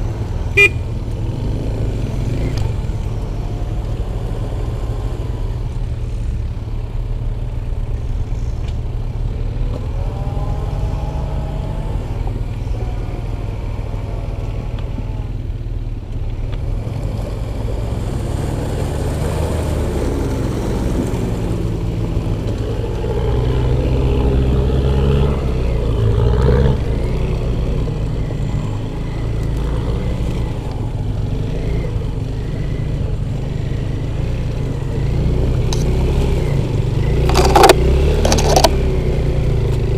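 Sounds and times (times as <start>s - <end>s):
off-road vehicle engines revving: 0.0s - 39.9s.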